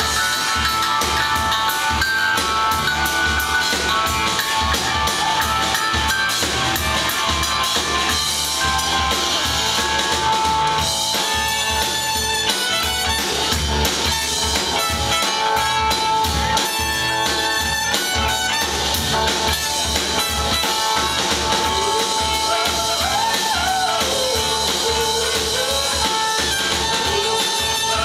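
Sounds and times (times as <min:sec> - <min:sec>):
bass guitar: 0:00.0 - 0:28.0
drum kit beat: 0:00.0 - 0:28.0
electric guitar: 0:00.0 - 0:28.0
piano: 0:00.0 - 0:28.0
trumpet melody: 0:00.0 - 0:28.0.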